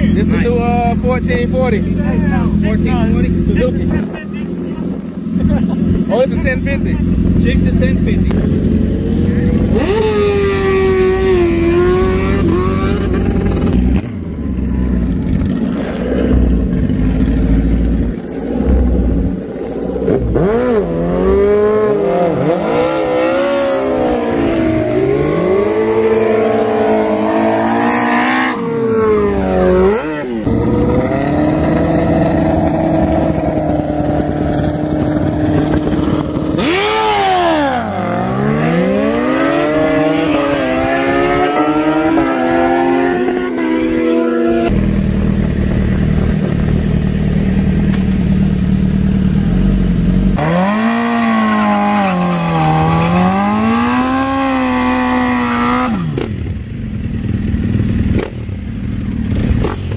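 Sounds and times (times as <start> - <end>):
motorcycle engines idling and revving: 0.0 - 59.9.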